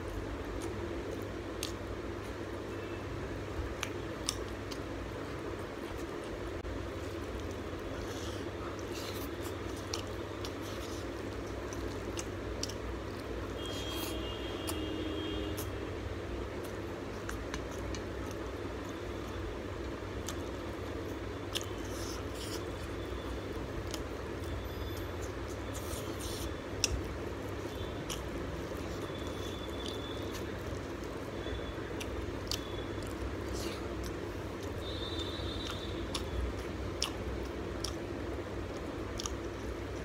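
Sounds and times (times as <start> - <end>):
chewing: 0.0 - 2.4, 3.7 - 14.8, 16.5 - 40.0
steady low hum: 0.0 - 40.0.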